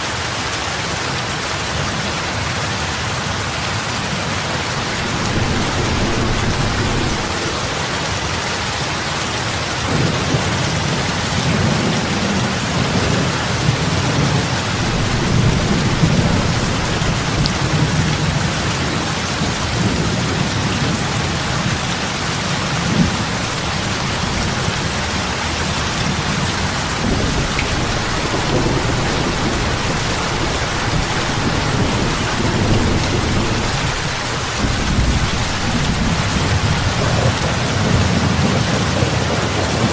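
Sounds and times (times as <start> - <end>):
heavy rain on water: 0.0 - 39.9
low rolling rumble: 4.4 - 10.4, 13.3 - 39.6.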